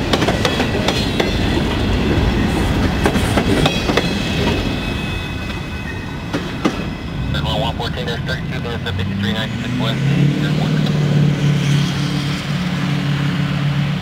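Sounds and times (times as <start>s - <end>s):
freight cars rumbling on rails: 0.0s - 14.0s.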